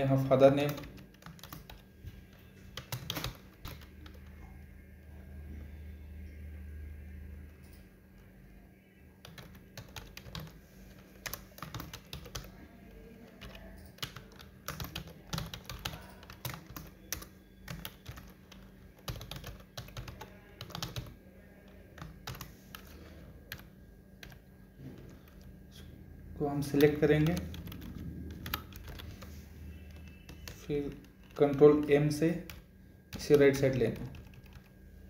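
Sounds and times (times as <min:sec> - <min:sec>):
typing on computer keyboard: 0:00.4 - 0:04.4, 0:09.2 - 0:25.5, 0:26.6 - 0:34.8.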